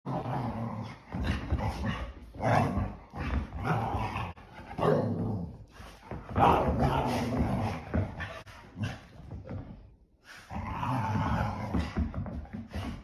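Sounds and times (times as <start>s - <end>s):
dogs growling and barking: 0.1s - 9.4s, 10.4s - 13.0s.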